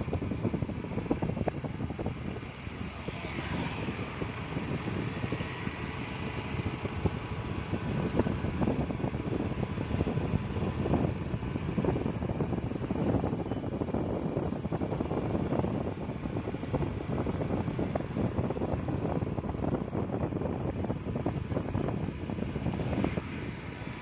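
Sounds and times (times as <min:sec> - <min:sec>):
vehicle road rumble: 0:00.0 - 0:24.0
wind buffeting microphone: 0:00.0 - 0:24.0.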